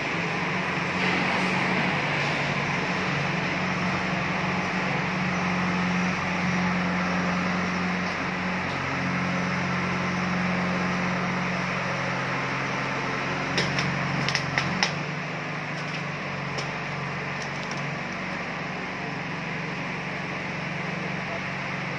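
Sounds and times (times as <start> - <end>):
mechanical hum with hiss: 0.0 - 21.9.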